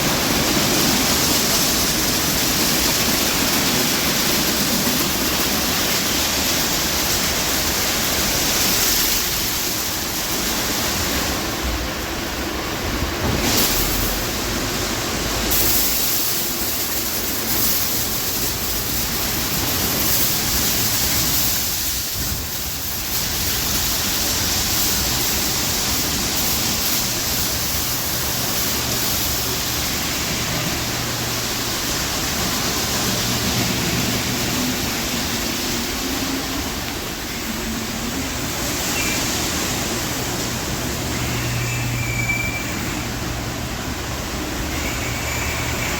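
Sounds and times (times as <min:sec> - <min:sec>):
car wash spraying water: 0:00.0 - 0:45.9.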